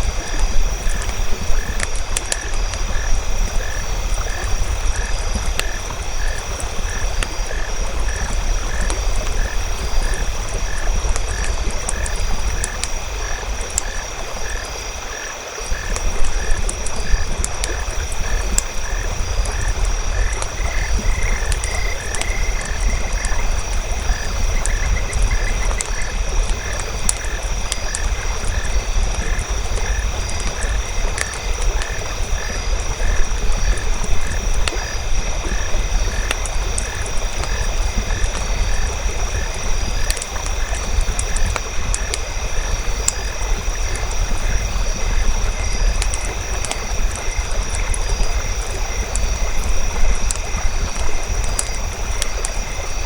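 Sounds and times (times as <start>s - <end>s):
campfire crackling and popping: 0.0s - 53.0s
frogs croaking: 0.0s - 53.0s.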